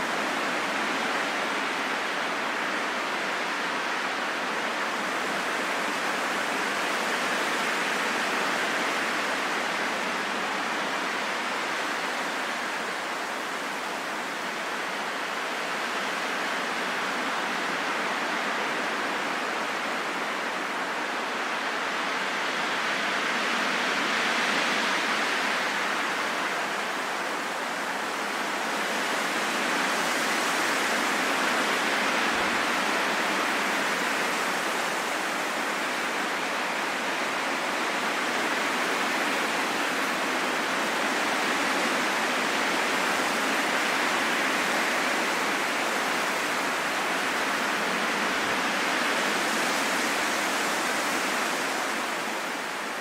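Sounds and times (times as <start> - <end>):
wind blowing in gusts: 0.0 - 53.0.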